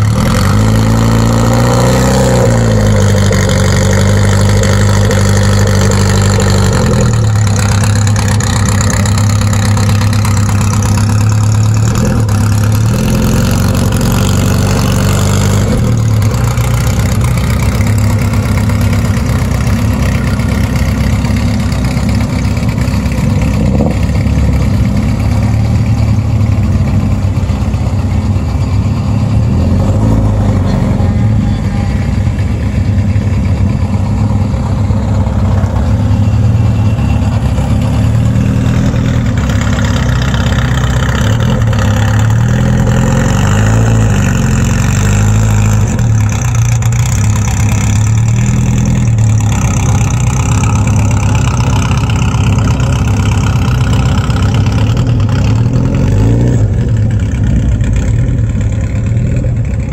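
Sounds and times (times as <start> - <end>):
sports car engines idling: 2.6 - 59.9.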